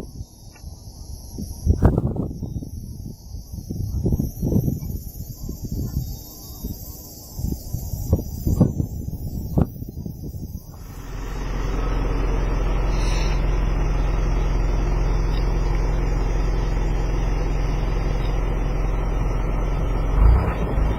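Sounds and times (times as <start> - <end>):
low mechanical hum: 0.0 - 20.9.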